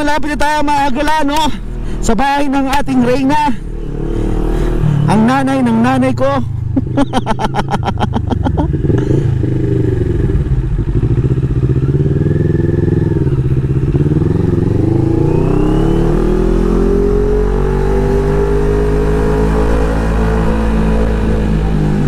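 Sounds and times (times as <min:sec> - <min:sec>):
motorcycle engine revving: 0:01.1 - 0:22.0.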